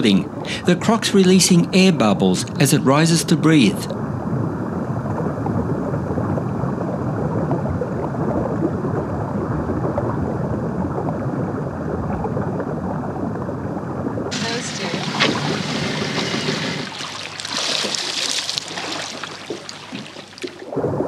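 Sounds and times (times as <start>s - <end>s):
underwater rushing rumble: 0.0s - 21.0s.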